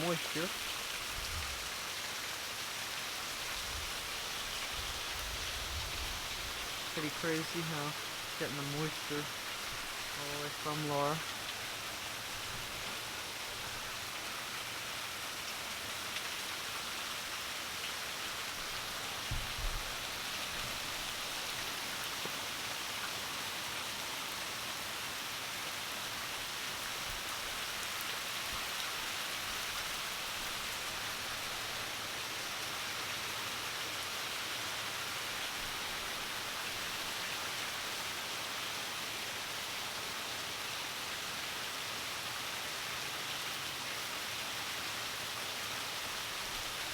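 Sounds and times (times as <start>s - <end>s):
heavy rain hissing: 0.0s - 41.0s.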